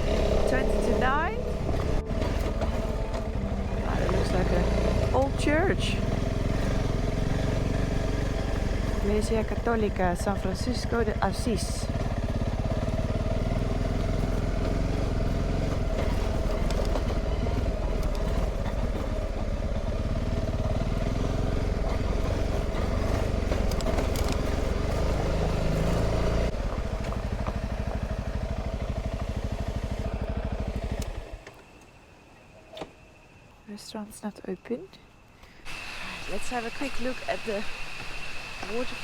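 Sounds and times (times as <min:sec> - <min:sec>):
motorcycle engine running: 0:00.0 - 0:31.5, 0:35.6 - 0:39.0.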